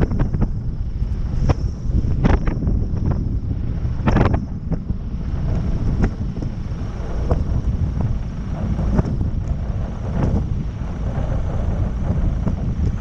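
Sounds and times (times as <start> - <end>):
aircraft engine running: 0.0 - 13.0
wind buffeting microphone: 0.0 - 13.0.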